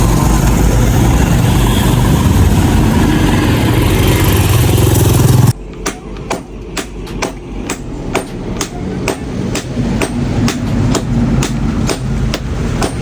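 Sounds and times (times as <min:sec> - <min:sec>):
hammering blows: 0:00.0 - 0:13.0.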